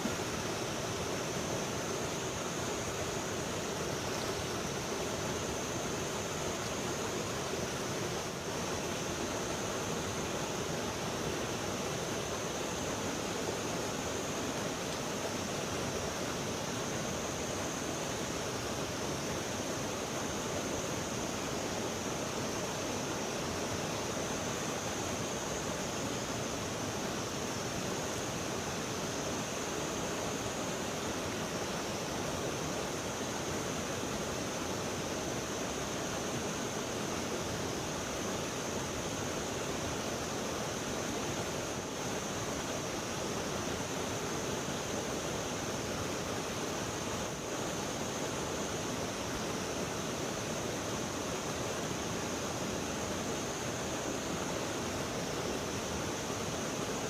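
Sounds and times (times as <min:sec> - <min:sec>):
high-pitched hiss: 0:00.0 - 0:57.0
river water rushing: 0:00.0 - 0:57.0.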